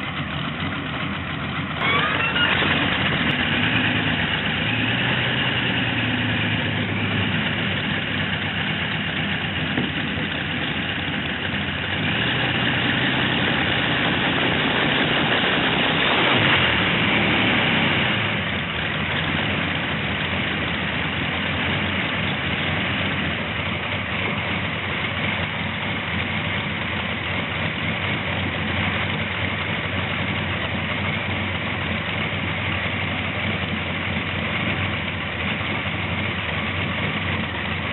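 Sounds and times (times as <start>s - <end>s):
tractor engine idling: 0.0s - 37.9s.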